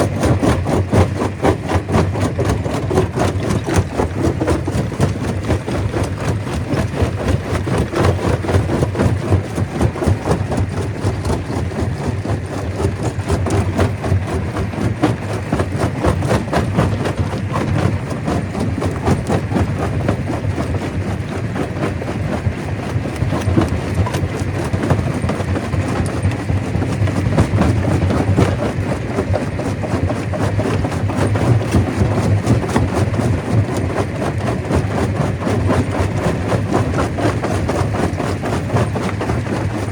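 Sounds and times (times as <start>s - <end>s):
stone crusher engine drone: 0.0s - 39.9s.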